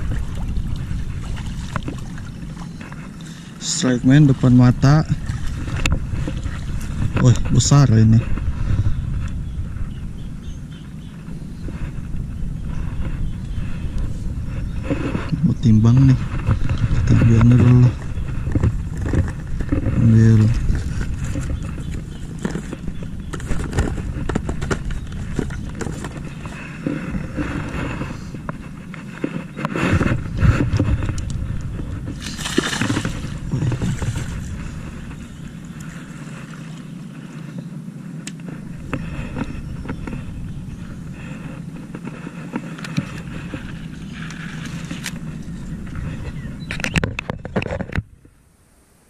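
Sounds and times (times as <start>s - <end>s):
rustling in long grass: 0.0s - 47.8s
wind rumble on microphone: 0.0s - 49.0s.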